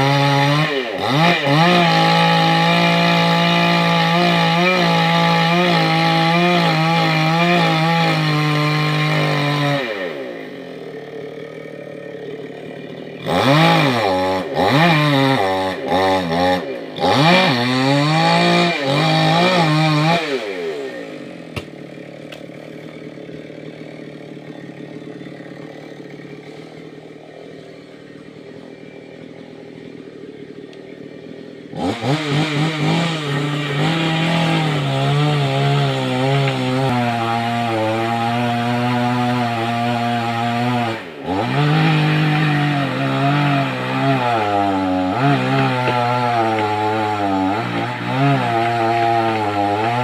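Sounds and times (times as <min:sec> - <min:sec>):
chainsaw cutting a tree: 0:00.0 - 0:50.0.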